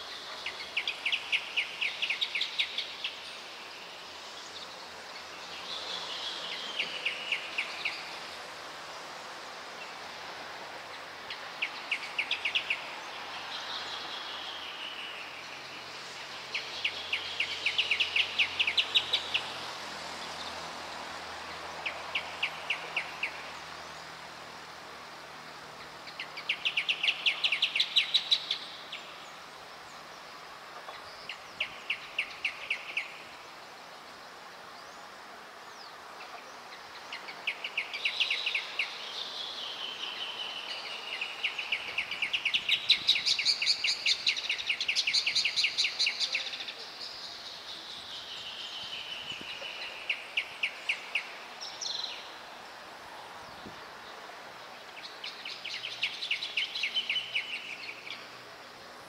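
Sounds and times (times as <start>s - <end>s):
birds singing a duet: 0.0s - 8.7s, 9.6s - 59.0s.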